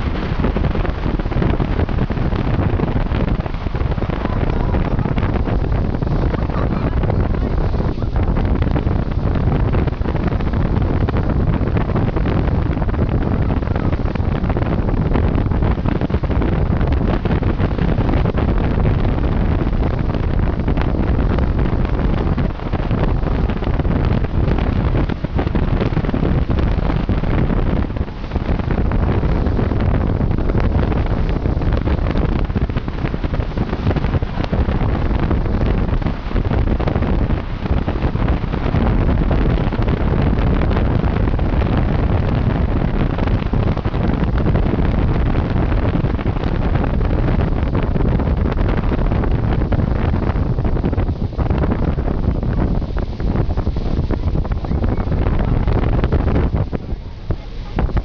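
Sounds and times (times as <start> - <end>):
boat engine low rumble: 0.0 - 58.0
wind buffeting microphone: 0.0 - 58.0.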